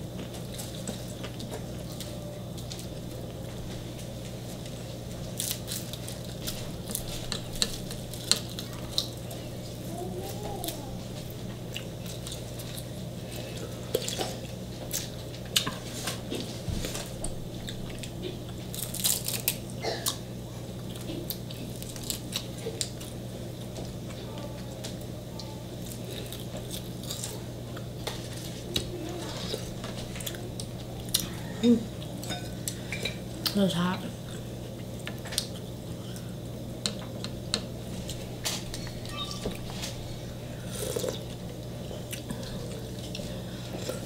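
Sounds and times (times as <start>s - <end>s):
chewing and crunching food: 0.0s - 44.0s
steady low hum: 0.0s - 44.0s.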